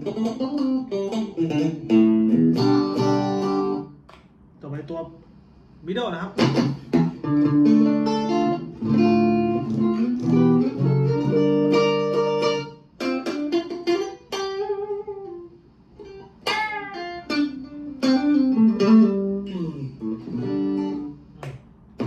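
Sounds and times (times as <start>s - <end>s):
clean electric guitar playing: 0.0s - 4.0s, 6.4s - 21.4s.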